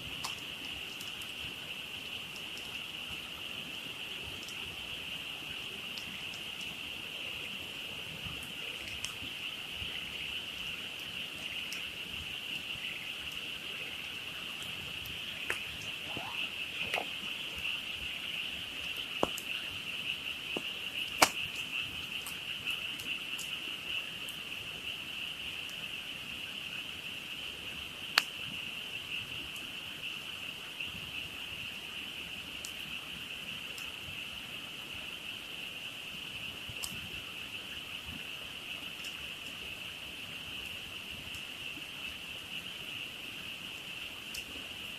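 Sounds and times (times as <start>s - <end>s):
campfire crackling and popping: 0.0s - 29.8s, 32.2s - 34.2s, 35.3s - 39.8s, 40.4s - 44.9s
frog chorus: 0.0s - 44.9s.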